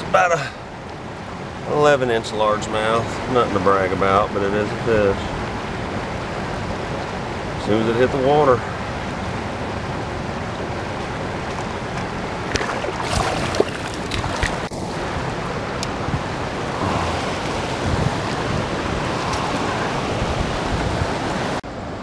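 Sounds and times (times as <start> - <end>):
turbulent water rushing: 0.0 - 22.0.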